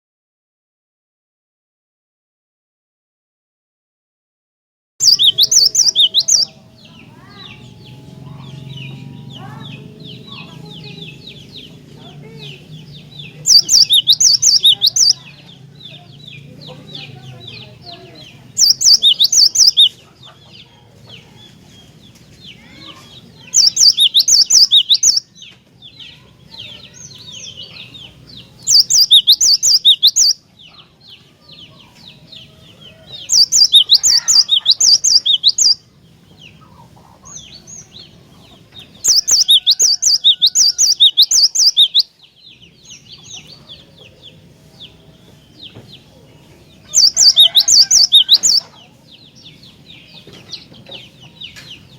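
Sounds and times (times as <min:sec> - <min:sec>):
bird singing rapid high chirps: 0:05.0 - 0:30.7, 0:31.4 - 0:51.9
quiet bird twittering: 0:05.0 - 0:51.9.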